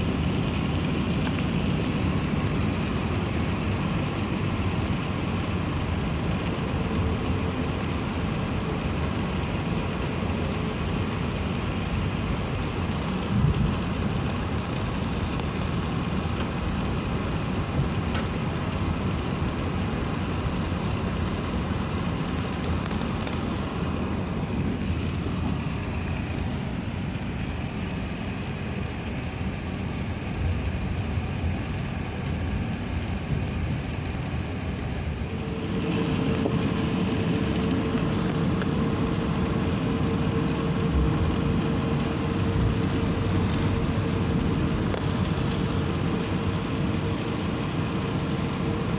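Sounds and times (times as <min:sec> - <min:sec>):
aircraft cabin rumble and hiss: 0:00.0 - 0:48.9.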